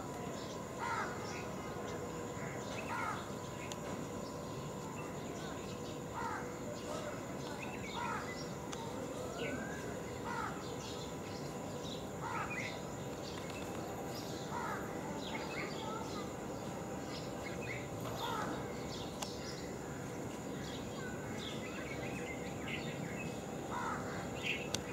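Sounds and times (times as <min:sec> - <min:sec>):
steady outdoor hiss: 0:00.0 - 0:24.9
birds chirping: 0:00.3 - 0:24.9.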